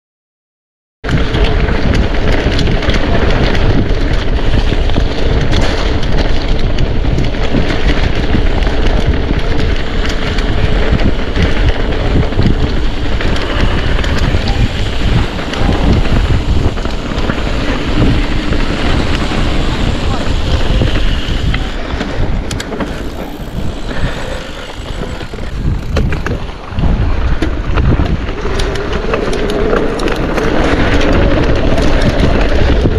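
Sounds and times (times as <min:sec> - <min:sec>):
bike tyres and frame rattling: 0:01.0 - 0:32.9
wind buffeting microphone: 0:01.0 - 0:32.9.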